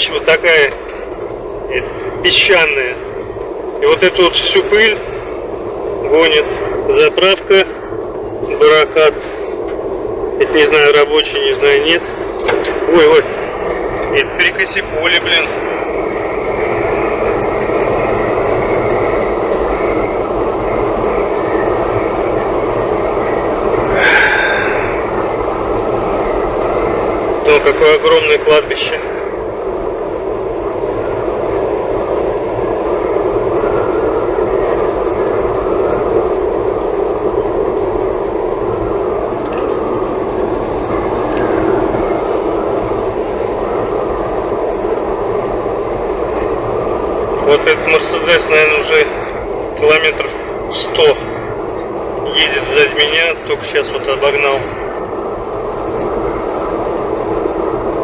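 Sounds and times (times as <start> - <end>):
road and wind noise in car: 0.0 - 58.0.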